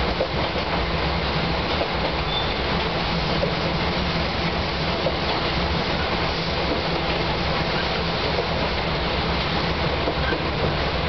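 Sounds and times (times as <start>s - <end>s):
train wheels and body rushing: 0.0s - 11.0s.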